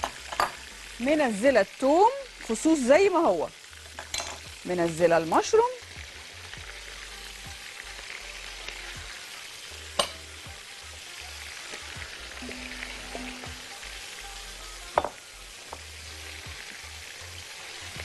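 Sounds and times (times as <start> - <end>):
vegetables sizzling in a pot: 0.0 - 18.0.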